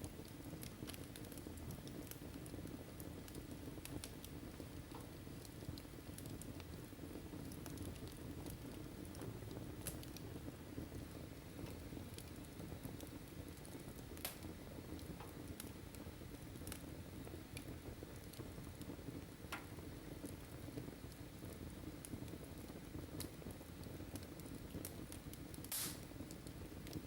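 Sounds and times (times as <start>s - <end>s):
fire flames rumbling: 0.0s - 27.0s
wood fire crackling and popping: 0.0s - 27.0s.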